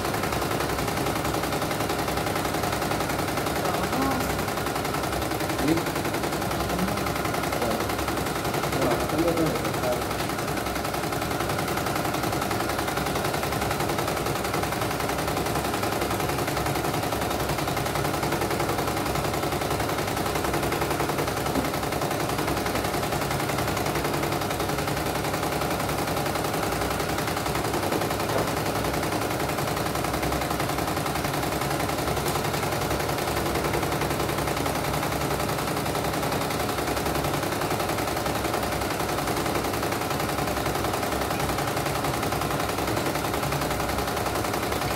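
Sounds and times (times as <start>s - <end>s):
embroidery machine stitching: 0.0s - 44.9s.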